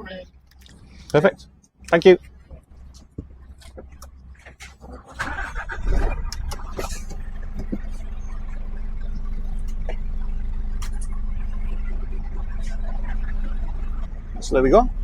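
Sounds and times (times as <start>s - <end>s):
lorry diesel engine rumble: 0.0s - 15.0s.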